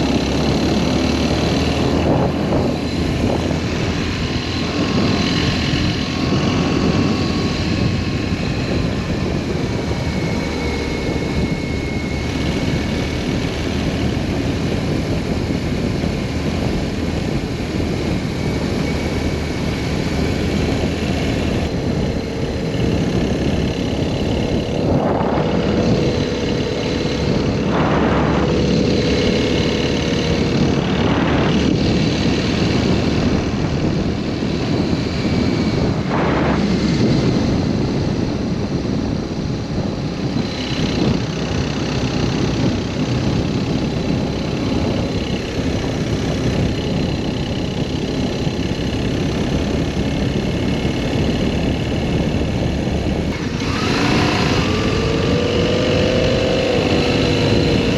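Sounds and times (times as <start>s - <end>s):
motorcycle engine running: 0.0s - 57.9s
wind rush: 0.0s - 57.9s.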